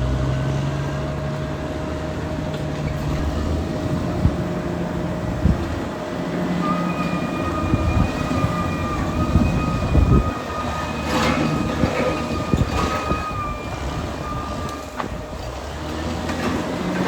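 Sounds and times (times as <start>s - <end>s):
diesel engine running: 0.0s - 17.0s
tracks clanking: 0.8s - 17.0s.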